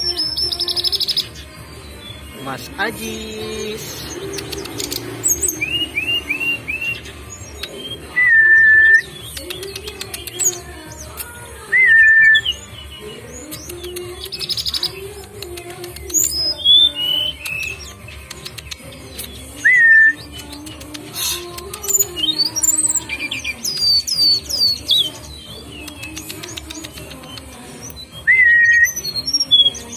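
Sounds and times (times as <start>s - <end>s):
birds chirping and trilling: 0.0s - 29.9s.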